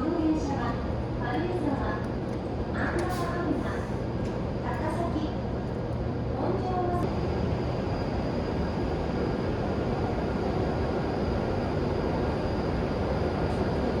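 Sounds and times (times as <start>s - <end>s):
low rumble of station platform: 0.0s - 14.0s.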